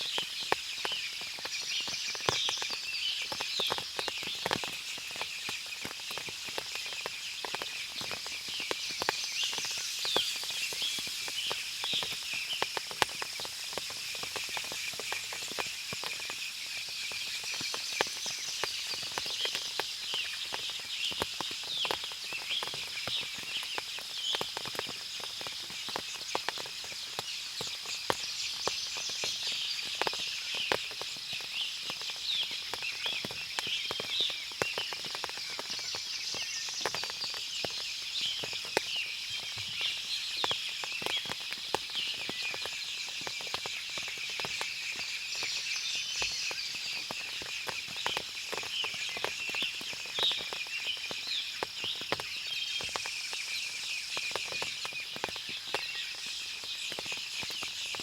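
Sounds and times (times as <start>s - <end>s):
water dripping from trees: 0.0s - 58.0s.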